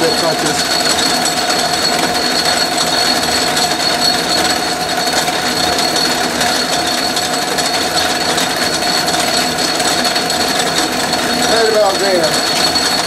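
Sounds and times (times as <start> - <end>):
lathe motor humming: 0.0 - 13.0.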